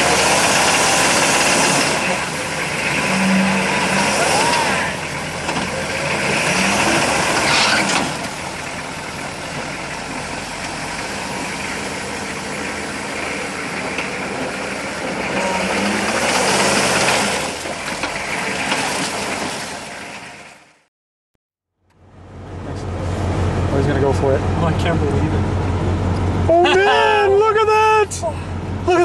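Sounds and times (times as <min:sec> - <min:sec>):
vehicle engine rumble: 0:00.0 - 0:20.9, 0:21.8 - 0:29.0.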